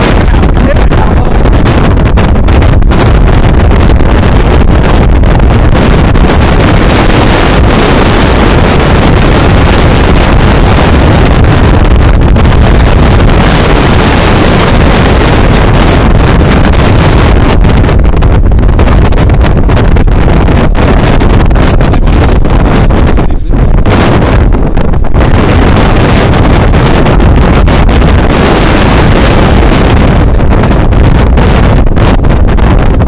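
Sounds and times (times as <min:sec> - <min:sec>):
wind battering microphone: 0:00.0 - 0:33.0.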